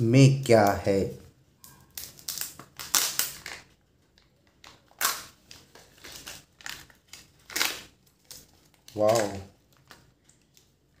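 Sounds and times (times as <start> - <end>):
foil wrapper crinkling and tearing: 1.6 - 11.0.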